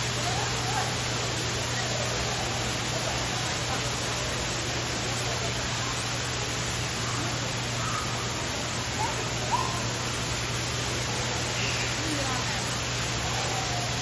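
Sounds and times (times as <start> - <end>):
faint distant voices: 0.0 - 14.0
waterfall rushing: 0.0 - 14.0.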